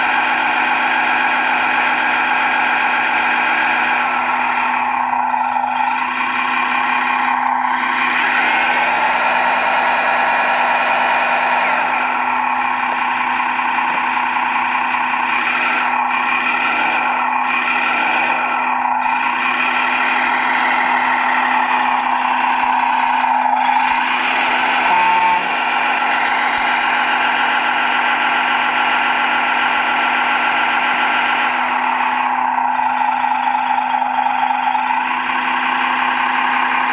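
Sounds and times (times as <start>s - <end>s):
toy truck engine running: 0.0s - 36.9s.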